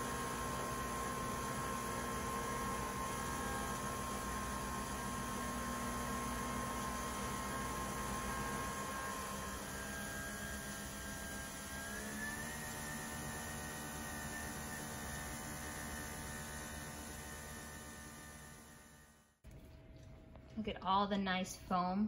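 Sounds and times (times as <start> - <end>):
coffee machine motor hum: 0.0 - 19.4.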